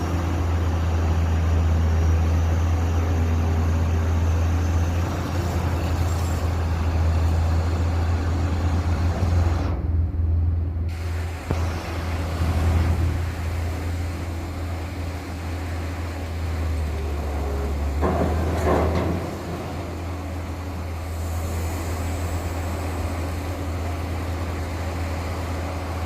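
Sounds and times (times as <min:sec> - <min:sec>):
heavy diesel engine humming: 0:00.0 - 0:26.0.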